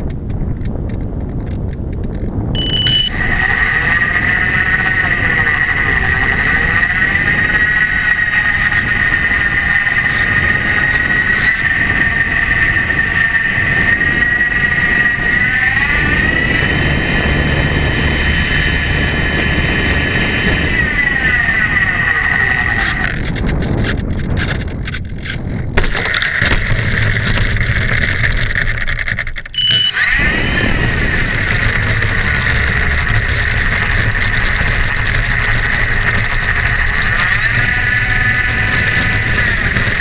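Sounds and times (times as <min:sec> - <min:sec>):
electric motor high whine: 0:00.0 - 0:40.0
wind rushing on microphone: 0:00.0 - 0:40.0.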